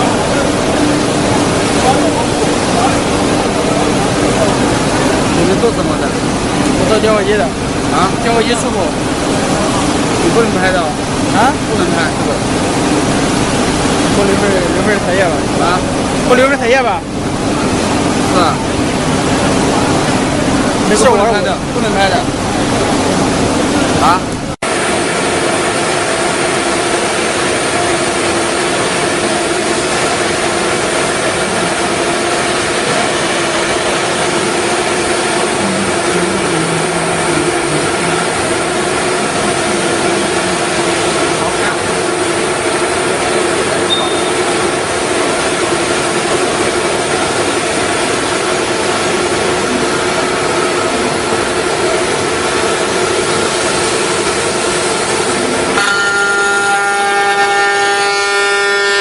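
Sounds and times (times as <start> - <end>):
cnc router spindle whine: 0.0 - 59.0
machining noise: 0.0 - 59.0.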